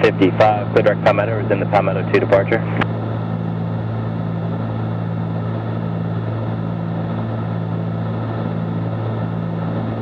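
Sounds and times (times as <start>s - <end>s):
aircraft engines droning in cabin: 0.0s - 10.0s.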